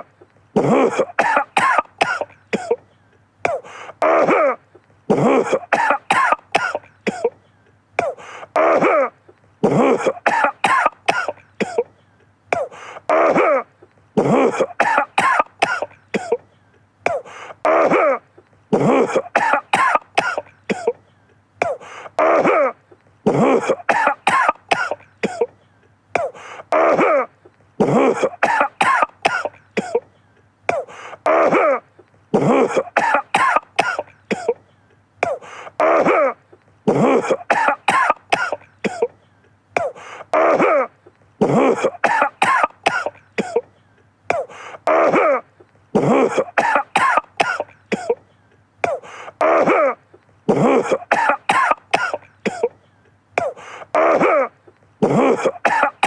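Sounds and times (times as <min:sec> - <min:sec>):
man coughing: 0:00.0 - 0:25.6, 0:26.2 - 0:56.0.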